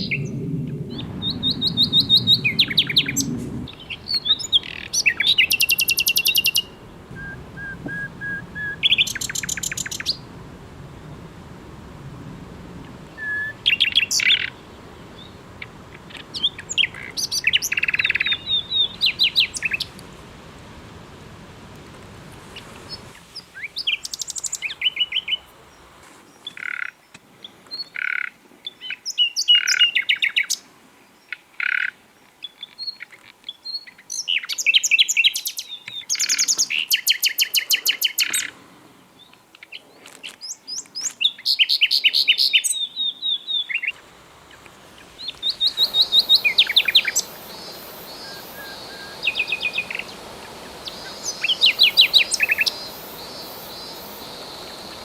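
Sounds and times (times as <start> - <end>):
songbirds trilling and chirping: 0.0 - 11.2, 12.8 - 20.3, 22.3 - 55.0
low steady hiss: 0.0 - 55.0.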